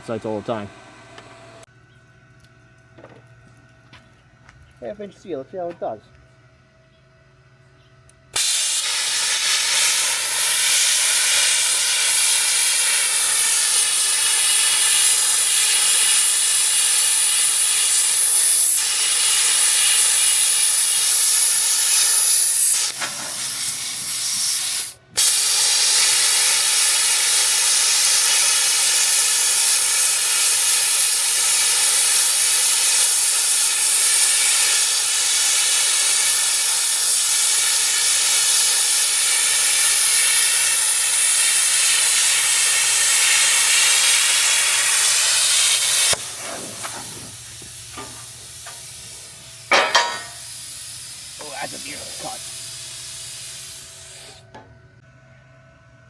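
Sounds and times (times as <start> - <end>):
plasma cutter hissing: 8.4 - 54.4.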